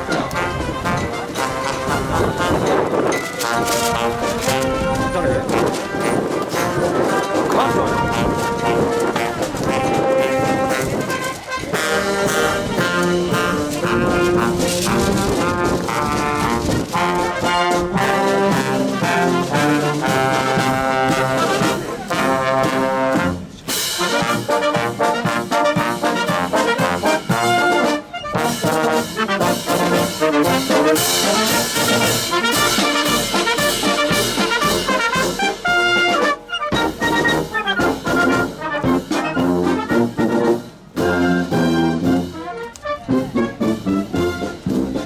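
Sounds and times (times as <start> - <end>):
marching band playing: 0.0 - 45.0.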